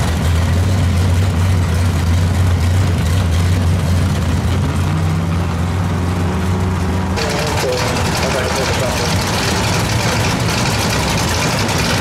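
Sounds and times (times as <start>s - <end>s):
car engine idling: 0.0s - 5.6s, 6.7s - 12.0s.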